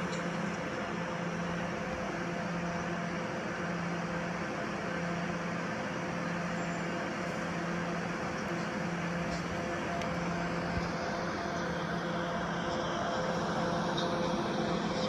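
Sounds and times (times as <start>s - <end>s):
pulsing low drone: 0.0s - 15.0s
train idling machinery hum: 0.0s - 15.0s.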